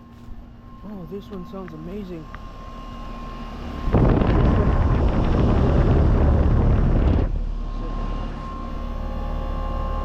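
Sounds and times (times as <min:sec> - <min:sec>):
fan wind noise with low rumble: 0:00.0 - 0:10.0.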